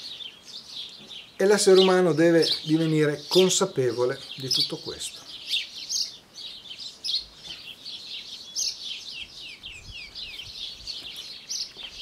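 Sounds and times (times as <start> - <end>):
small birds chirping and twittering: 0.0 - 12.0.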